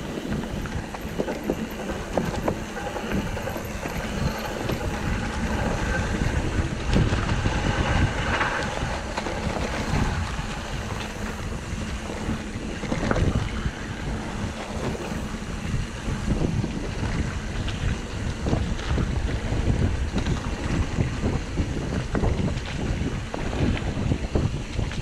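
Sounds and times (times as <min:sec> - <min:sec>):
tyres rumbling on dirt trail: 0:00.0 - 0:25.0
wind buffeting microphone: 0:00.0 - 0:25.0.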